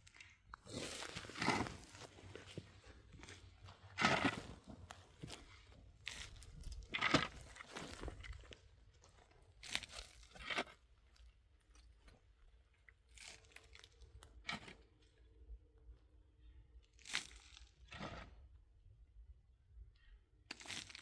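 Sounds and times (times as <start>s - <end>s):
crunching and crinkling: 0.0s - 15.4s, 16.9s - 18.5s, 20.5s - 21.0s.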